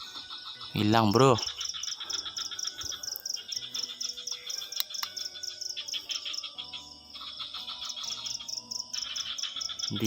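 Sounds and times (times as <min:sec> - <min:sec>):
crickets chirping: 0:00.0 - 0:10.0
shrill insect chirring: 0:00.0 - 0:10.0.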